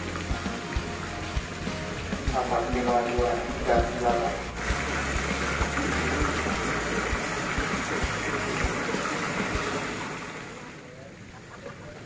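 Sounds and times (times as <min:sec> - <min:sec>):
water jets splashing on pond: 0:00.0 - 0:12.0.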